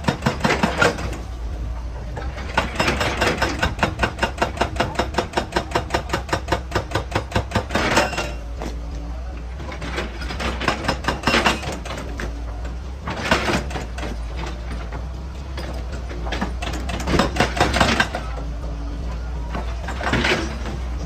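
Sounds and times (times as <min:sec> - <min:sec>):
clattering and scraping impacts: 0:00.0 - 0:21.0
heavy machinery engine drone: 0:00.0 - 0:21.0.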